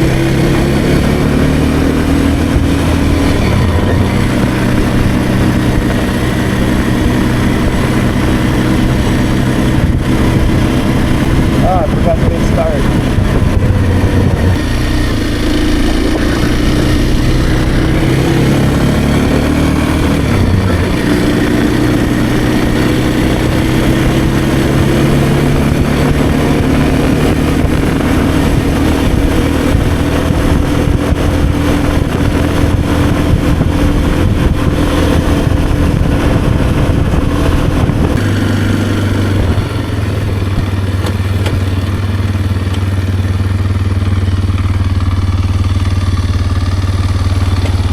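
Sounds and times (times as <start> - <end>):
wind noise on microphone: 0.0 - 44.3
dirt bike engine running: 0.0 - 47.9.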